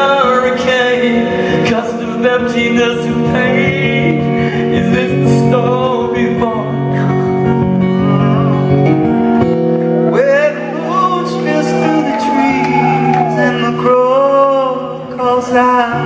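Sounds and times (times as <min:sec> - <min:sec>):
sustained guitar chords: 0:03.0 - 0:16.0.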